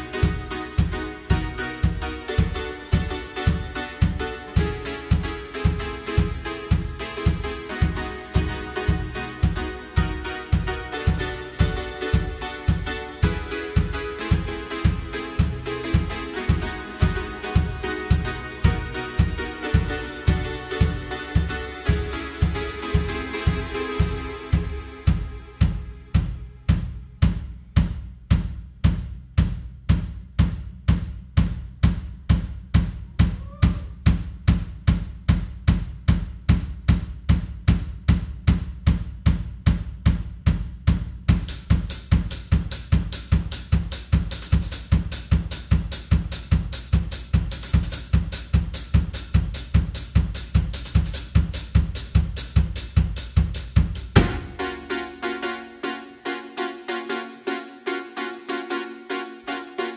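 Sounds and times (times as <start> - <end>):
kick and snare drum groove: 0.0 - 55.0
cymbals and hi-hat: 0.0 - 56.0.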